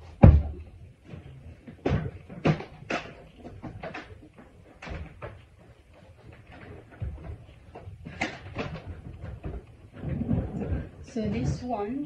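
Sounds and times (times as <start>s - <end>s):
hard plastic parts knocking: 0.0s - 11.7s
quiet handling: 0.0s - 12.0s.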